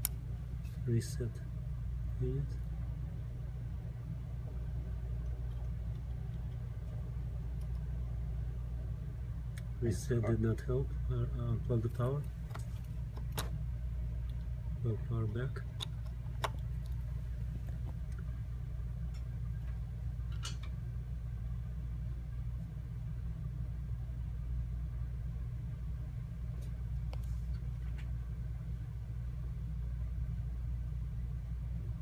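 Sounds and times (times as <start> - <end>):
low hum of room equipment: 0.0 - 32.0.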